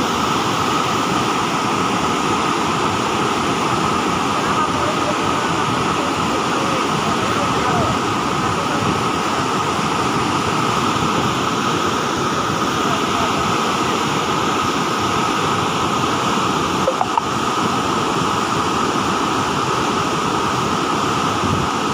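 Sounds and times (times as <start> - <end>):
water rushing through dam spillway: 0.0 - 21.9.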